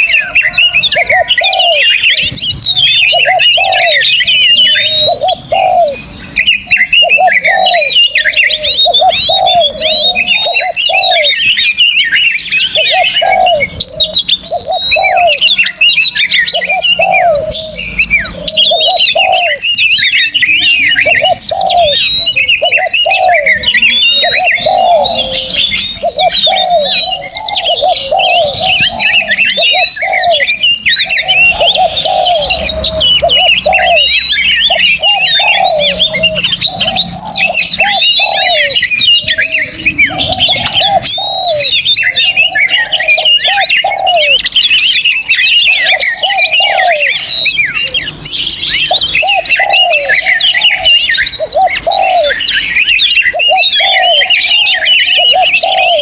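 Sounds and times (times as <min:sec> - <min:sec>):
dove cooing: 0:00.0 - 0:56.0
songbirds chirping: 0:00.0 - 0:56.0.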